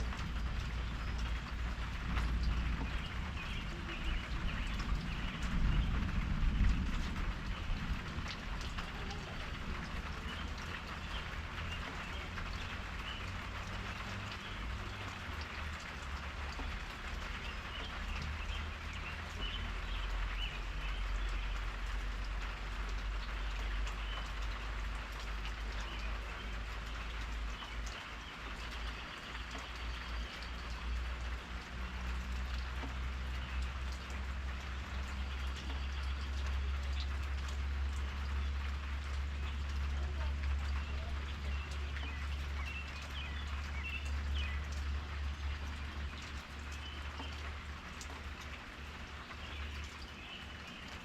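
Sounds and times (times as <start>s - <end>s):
rain pattering: 0.0s - 51.0s.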